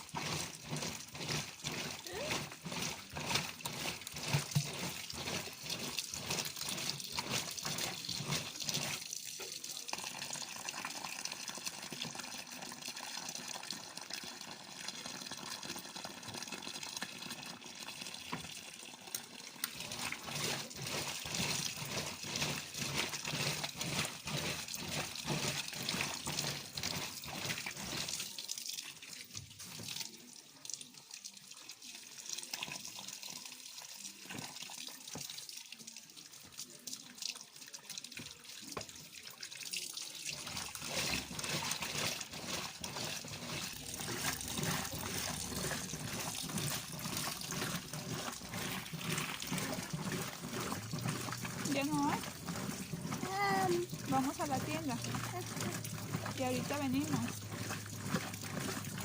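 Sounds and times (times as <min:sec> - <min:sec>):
water splashing into washing machine: 0:00.0 - 0:59.0.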